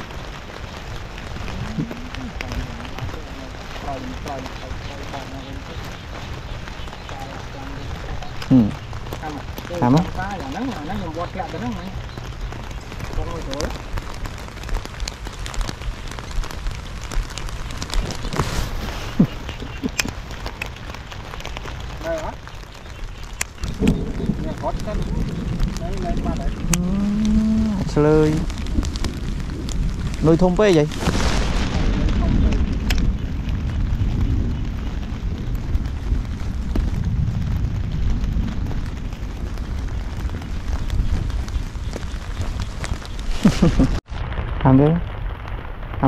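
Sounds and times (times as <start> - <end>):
rain falling: 0.0 - 46.0
sharp ticks of raindrops: 0.0 - 46.0
wind buffeting microphone: 0.0 - 46.0.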